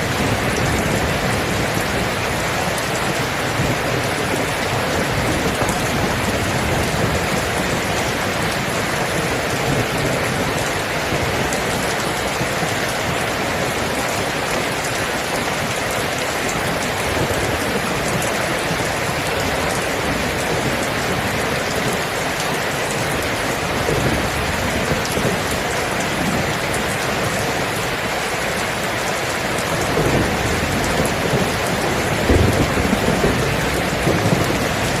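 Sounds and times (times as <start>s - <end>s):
low thunder rumbling: 0.0s - 35.0s
steady rain falling: 0.0s - 35.0s.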